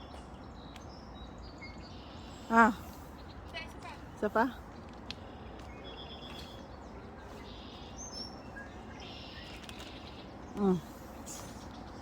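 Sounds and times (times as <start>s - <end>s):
outdoor background hum: 0.0s - 12.0s
small birds chirping: 0.0s - 12.0s.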